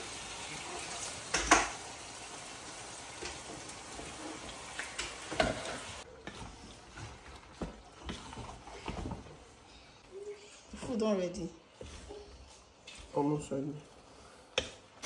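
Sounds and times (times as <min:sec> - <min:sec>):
vegetables sizzling in a saucepan: 0:00.0 - 0:09.7, 0:10.8 - 0:15.0.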